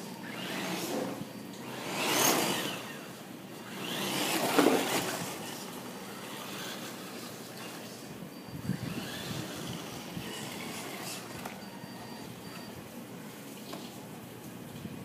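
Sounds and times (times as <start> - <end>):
toy truck motor passing by: 0.0 - 8.0, 8.6 - 12.7.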